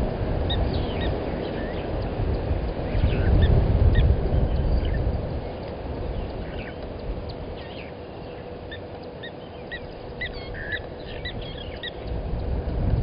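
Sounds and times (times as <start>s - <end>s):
birds chirping: 0.0s - 12.8s
faint steady hum: 0.0s - 13.0s
low wind rumble: 0.0s - 13.0s.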